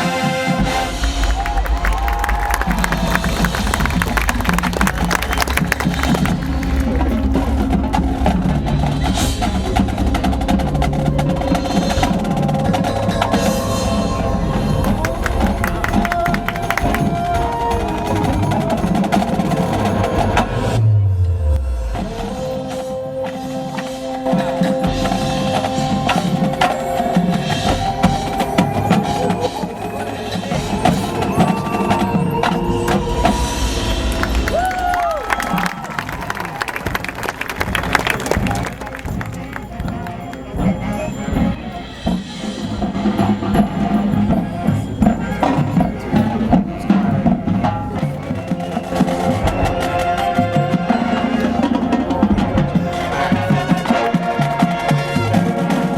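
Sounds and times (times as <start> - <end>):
drum and mallet percussion: 0.0 - 20.8, 21.8 - 36.1, 36.8 - 55.9
marching band playing: 0.0 - 20.8, 21.9 - 55.9.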